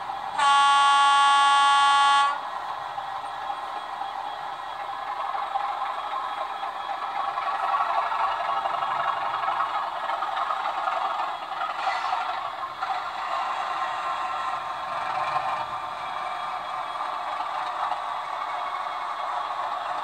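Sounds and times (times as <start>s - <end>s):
model train running and clattering: 0.0s - 20.0s.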